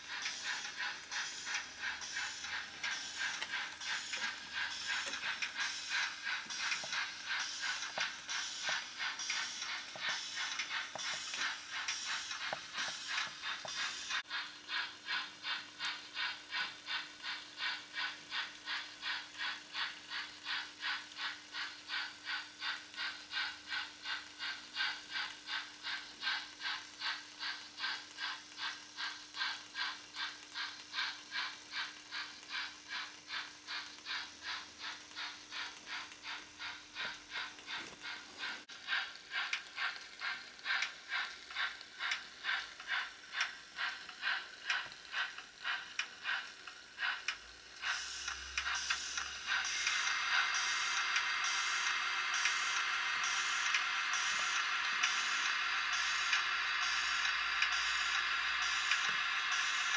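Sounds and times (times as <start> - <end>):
model steam locomotive chuffing: 0.0 - 59.9.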